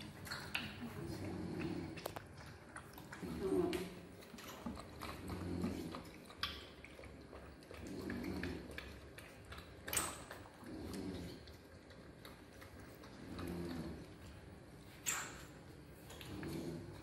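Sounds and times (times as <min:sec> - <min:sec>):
baby monkeys sucking bottles: 0:00.0 - 0:17.0.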